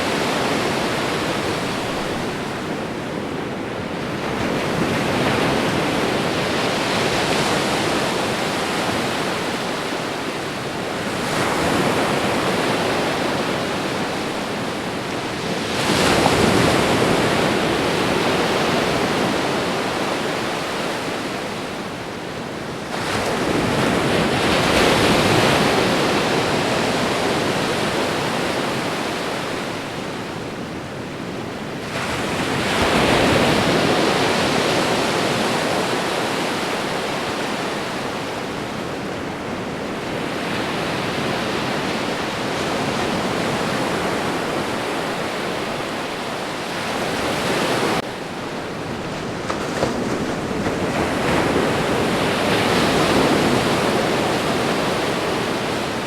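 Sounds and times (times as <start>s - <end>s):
waves breaking and washing in: 0.0s - 56.0s.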